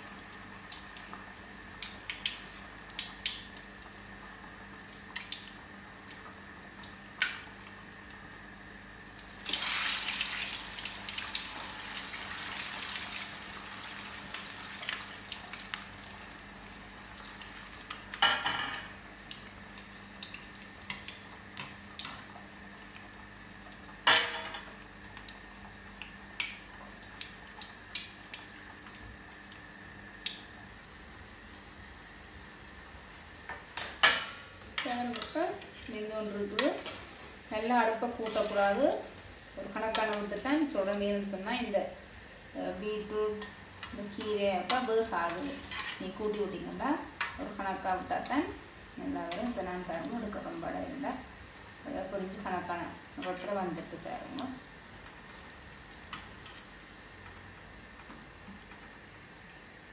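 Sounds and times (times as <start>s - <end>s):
oil sizzling and crackling: 0.0s - 59.9s.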